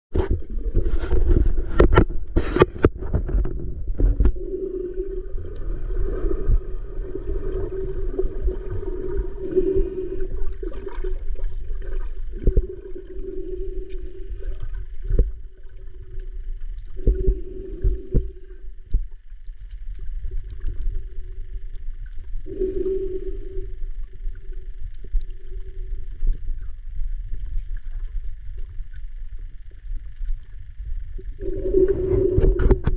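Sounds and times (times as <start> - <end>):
underwater rumble of moving water: 0.1 - 32.9
humming drone: 0.2 - 32.9.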